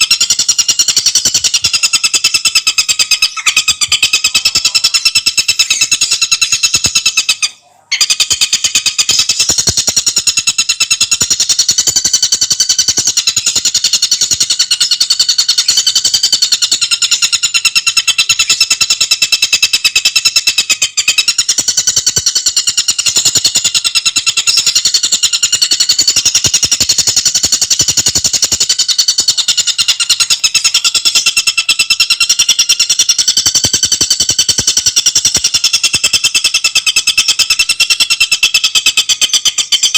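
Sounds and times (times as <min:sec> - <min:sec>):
bird rattling trill: 0:00.0 - 0:07.4, 0:08.0 - 0:39.9.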